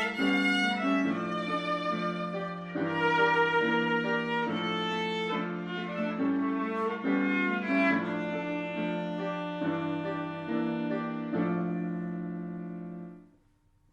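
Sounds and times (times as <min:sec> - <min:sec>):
slow bowed string melody: 0:00.0 - 0:12.9.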